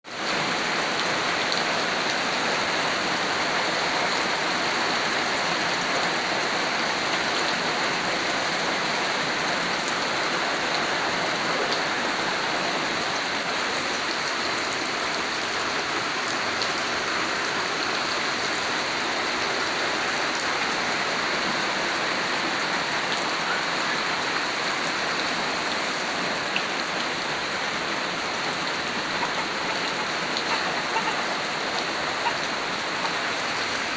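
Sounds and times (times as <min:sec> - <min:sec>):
rain pouring down: 0:00.0 - 0:33.9.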